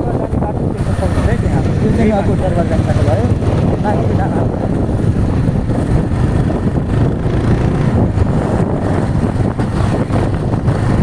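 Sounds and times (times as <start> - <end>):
vehicle road noise: 0.0 - 11.0
wind buffeting microphone: 0.0 - 11.0.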